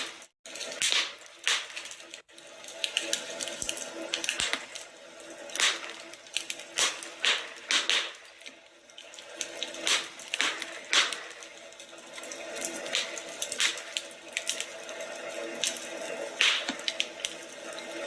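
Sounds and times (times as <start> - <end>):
fire hissing: 0.0 - 17.8
fireplace fire crackling: 0.0 - 18.0.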